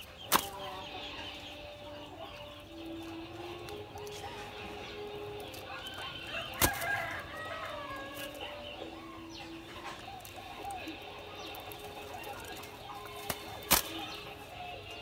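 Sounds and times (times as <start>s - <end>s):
bird chirps and calls: 0.0s - 15.0s
doves wings flapping: 0.0s - 15.0s.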